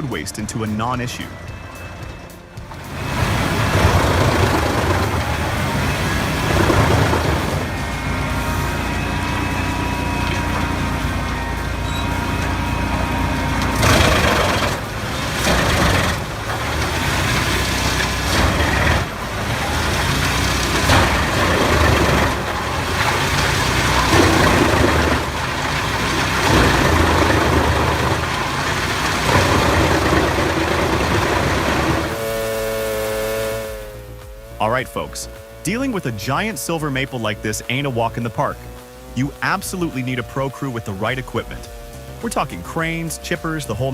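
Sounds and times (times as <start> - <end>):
wood chipper engine running: 0.0 - 43.9
wood crunching in chipper: 0.0 - 43.9.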